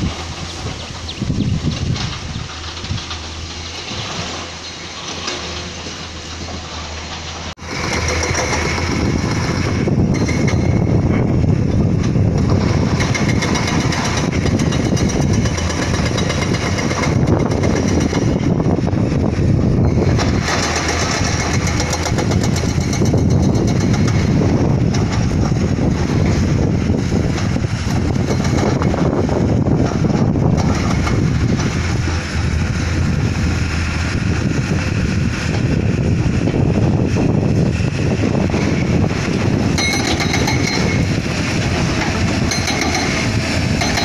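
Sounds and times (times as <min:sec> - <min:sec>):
diesel construction machinery: 0:00.0 - 0:44.0.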